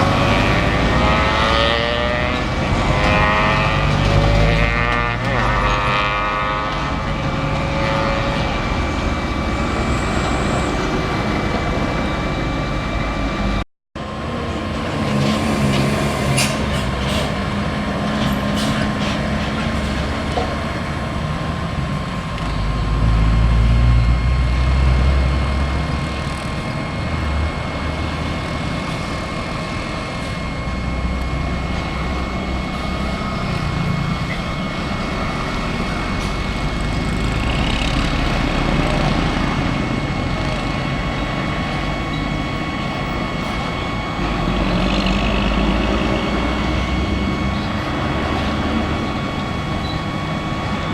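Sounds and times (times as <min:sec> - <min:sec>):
heavy trucks and buses passing: 0:00.0 - 0:50.9.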